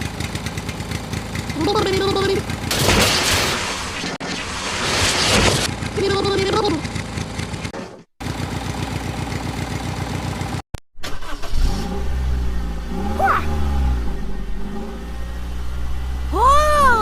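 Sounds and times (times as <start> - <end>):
engine puttering: 0.0 - 3.5, 5.6 - 16.4.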